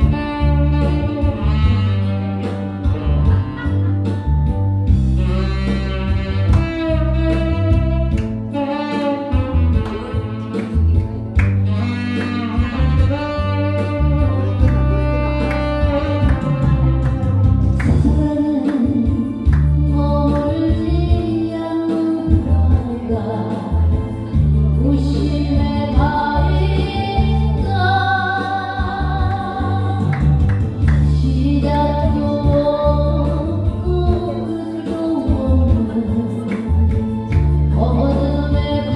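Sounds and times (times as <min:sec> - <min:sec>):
backing band with pulsing bass: 0:00.0 - 0:38.9.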